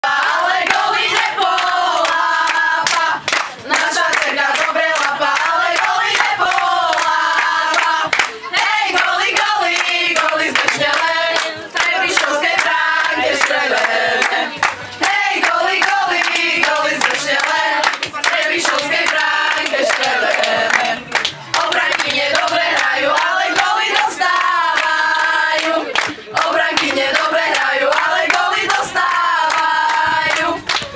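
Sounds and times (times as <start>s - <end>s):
girls singing a chant: 0.0s - 30.9s
hands clapping: 0.2s - 30.9s.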